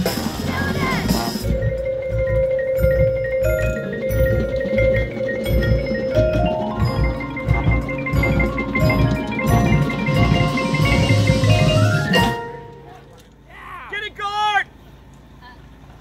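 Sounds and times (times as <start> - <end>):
mallet percussion: 0.0 - 13.2.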